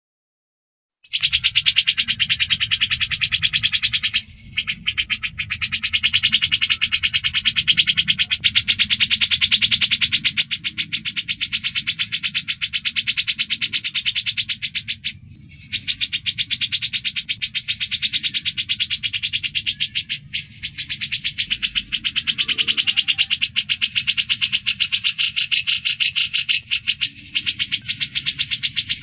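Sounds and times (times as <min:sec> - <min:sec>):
bird trill: 0:01.0 - 0:29.0.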